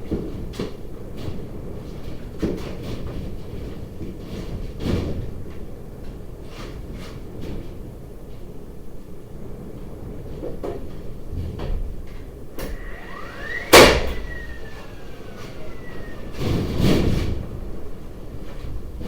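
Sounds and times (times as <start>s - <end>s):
rustling and scraping: 0.1s - 8.5s, 9.4s - 19.0s.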